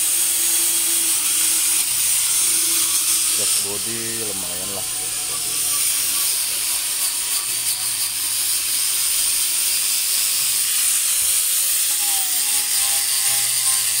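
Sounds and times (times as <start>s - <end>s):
angle grinder sanding steel: 0.0s - 14.0s.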